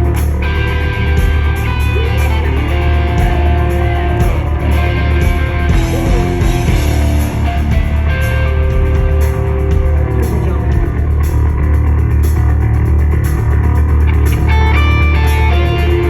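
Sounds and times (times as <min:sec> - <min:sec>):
lead electric guitar: 0:00.0 - 0:12.0, 0:14.1 - 0:16.0
bass and drums: 0:00.0 - 0:16.0.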